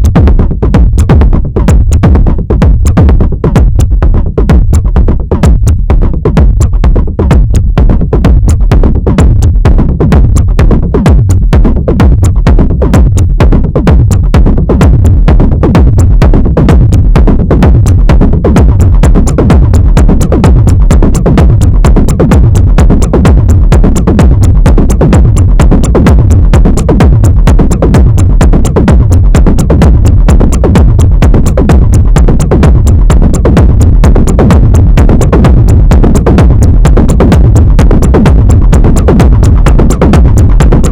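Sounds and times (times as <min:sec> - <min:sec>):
techno synthesizer beat: 0:00.0 - 0:40.9.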